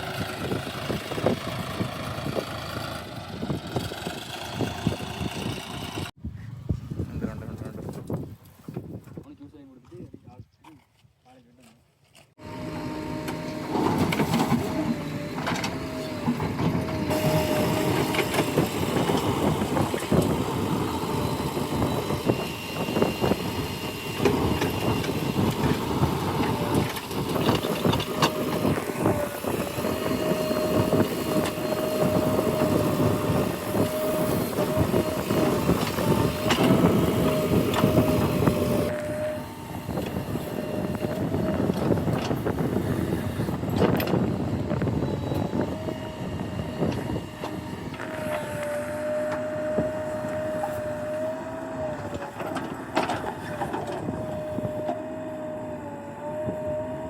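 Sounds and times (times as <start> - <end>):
diesel engine whining under load: 0.0 - 8.2, 12.4 - 57.0.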